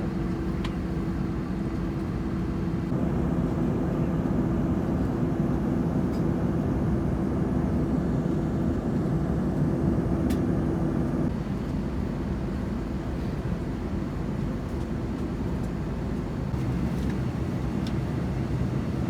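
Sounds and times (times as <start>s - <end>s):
jet airliner cabin roar: 0.0s - 19.0s.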